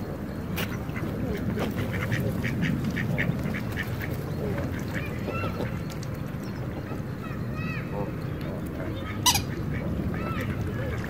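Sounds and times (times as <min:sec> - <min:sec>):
birds calling: 0:00.0 - 0:11.0
steady low background noise: 0:00.0 - 0:11.0.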